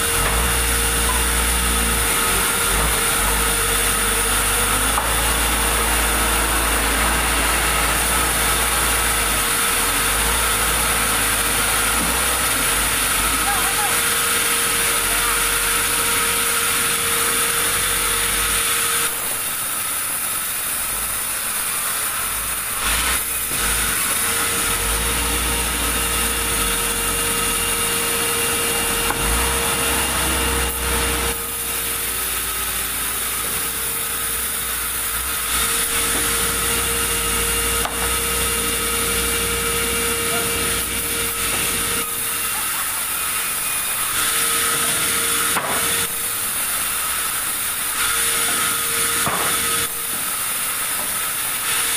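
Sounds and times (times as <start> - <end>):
saw cutting through wood: 0.0 - 51.9.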